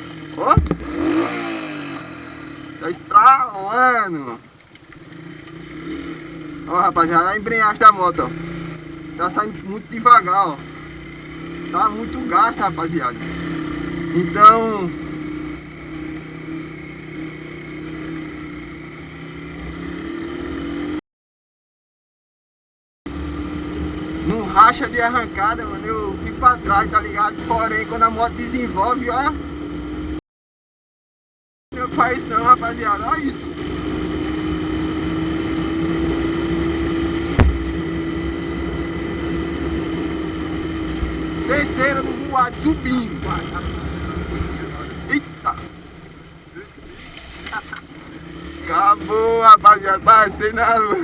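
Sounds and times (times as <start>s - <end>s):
loud motorcycle engine running: 0.0s - 21.0s, 23.1s - 30.2s, 31.7s - 51.0s.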